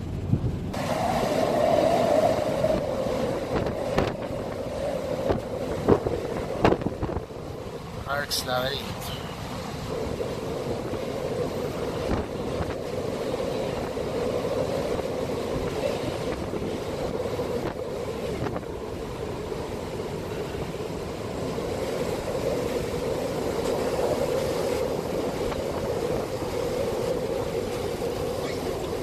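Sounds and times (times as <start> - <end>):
choppy sea: 0.0 - 29.0
wind buffeting microphone: 0.0 - 29.0.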